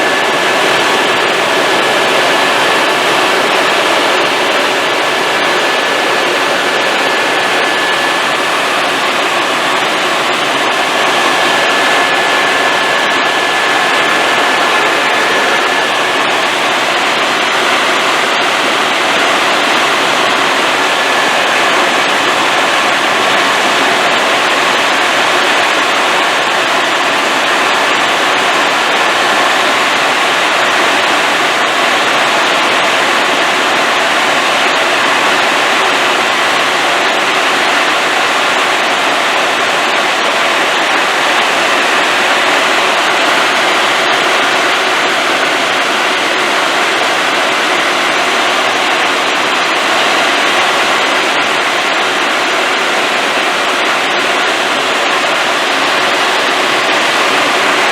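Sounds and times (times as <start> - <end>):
faint high whine: 0.0 - 57.9
helicopter engine and airflow rush: 0.0 - 57.9.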